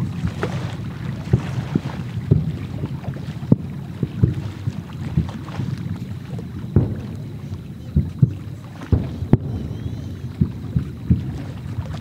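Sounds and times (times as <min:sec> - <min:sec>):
fireworks booming: 0:00.0 - 0:12.0
steady low rumble: 0:00.0 - 0:12.0.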